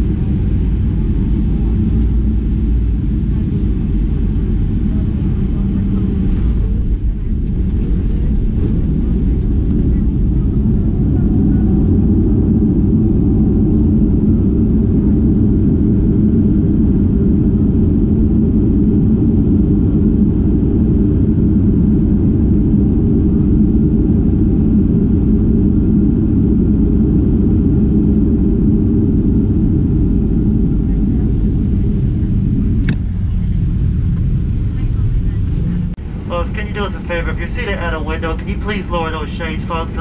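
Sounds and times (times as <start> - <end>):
airplane engines and wheels rumbling: 0.0 - 40.0.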